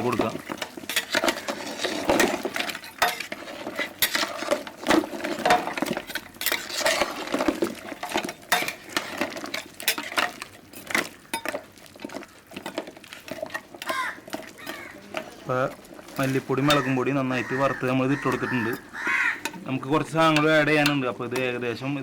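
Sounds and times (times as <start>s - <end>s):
metal spoon stirring in a pot: 0.0s - 22.0s.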